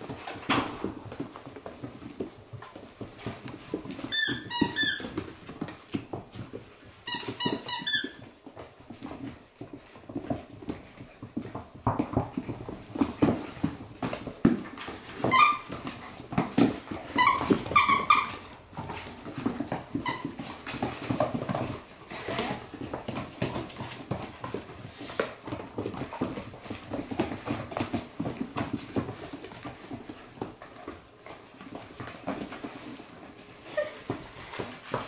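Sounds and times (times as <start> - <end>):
paws clicking on hard floor: 0.0 - 35.0.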